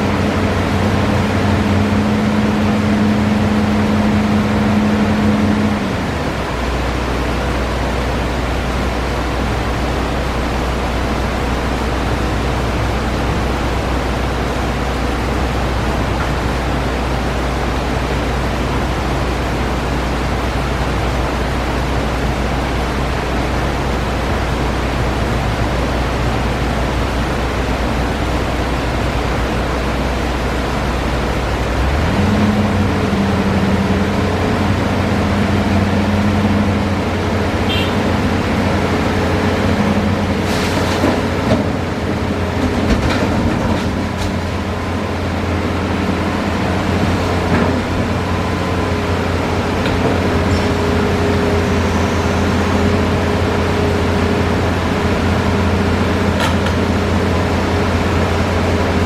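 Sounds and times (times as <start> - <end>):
excavator diesel engine revving: 0.0 - 59.0.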